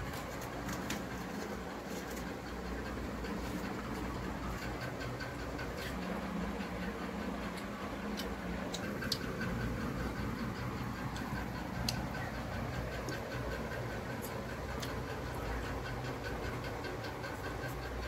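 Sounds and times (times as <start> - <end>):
steady low background hum: 0.0 - 18.0.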